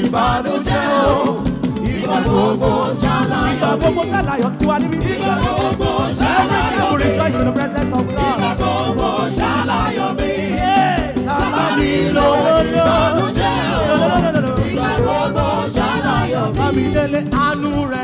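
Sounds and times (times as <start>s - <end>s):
held instrumental notes: 0.0s - 18.0s
steady percussion beat: 0.0s - 18.0s
voices singing gospel music: 0.0s - 18.0s.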